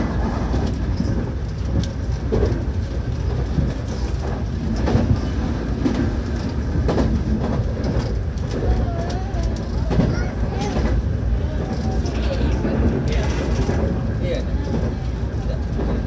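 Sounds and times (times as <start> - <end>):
train interior rumble: 0.0 - 16.0
wheels clacking over rail joints: 0.0 - 16.0.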